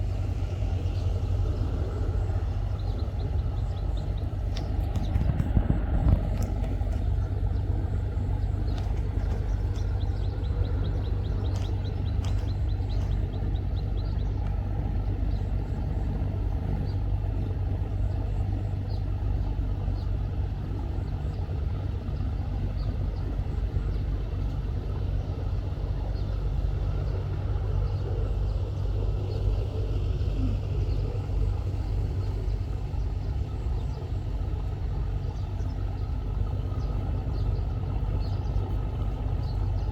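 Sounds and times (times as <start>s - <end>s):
boat engine rumbling: 0.0s - 39.9s.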